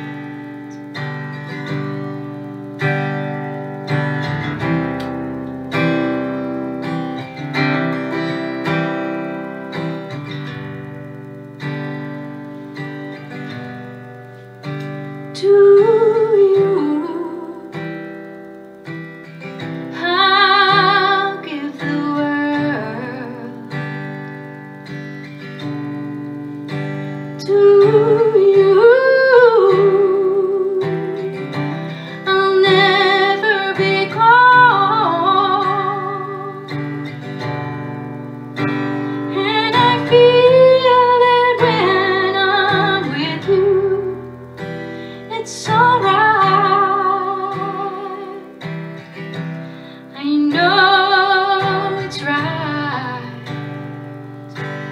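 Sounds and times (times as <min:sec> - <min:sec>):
acoustic guitar chords: 0:00.0 - 0:54.9
woman singing slow song: 0:00.0 - 0:54.9.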